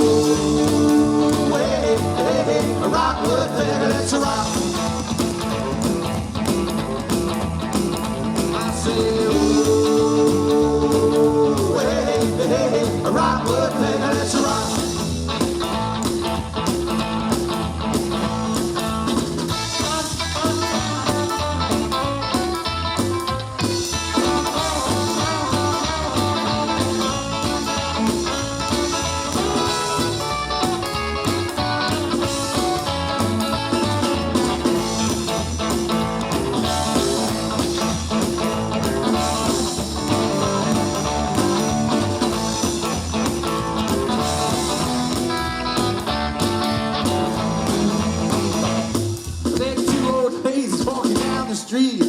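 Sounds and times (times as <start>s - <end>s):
lead guitar: 0.0s - 51.8s
live rock and roll band: 0.0s - 52.0s.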